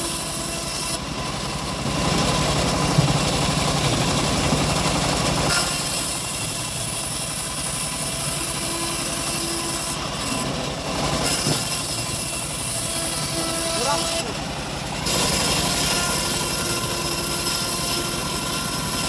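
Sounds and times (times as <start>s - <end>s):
blade sawing through log: 0.0s - 19.0s
sawmill engine running: 0.0s - 19.0s.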